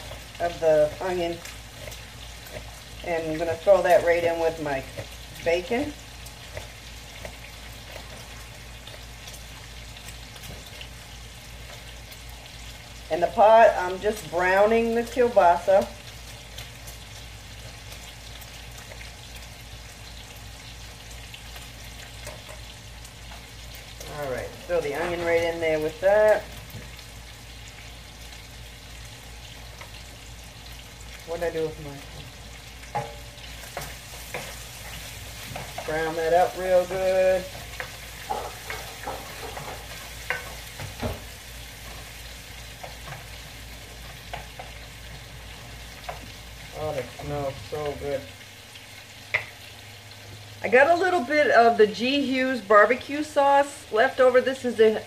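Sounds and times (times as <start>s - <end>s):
sausage sizzling in frying pan: 0.0s - 55.0s.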